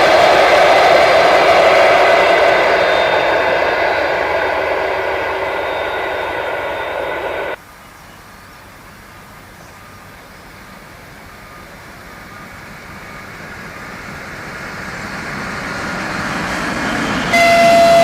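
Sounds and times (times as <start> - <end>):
train rumbling: 0.0 - 7.9, 8.7 - 18.0
diesel locomotive engine whine: 0.0 - 8.0, 8.6 - 18.0.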